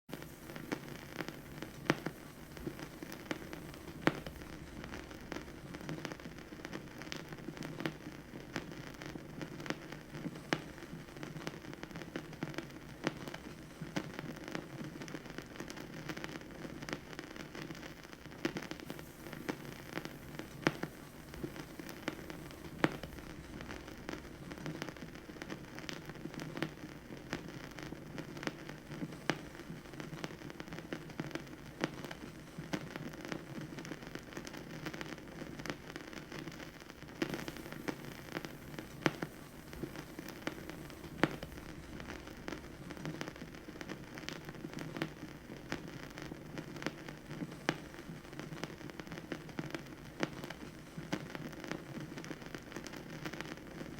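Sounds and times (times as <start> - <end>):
vinyl pops: 0.1 - 53.9
vinyl surface hiss and crackle: 0.1 - 53.9.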